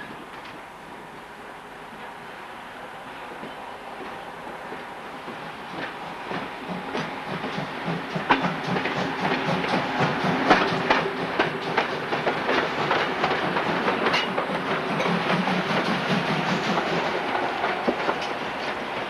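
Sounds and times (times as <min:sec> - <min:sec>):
train rumble: 0:00.0 - 0:19.0
train wheels clicking over rail joints: 0:03.4 - 0:19.0.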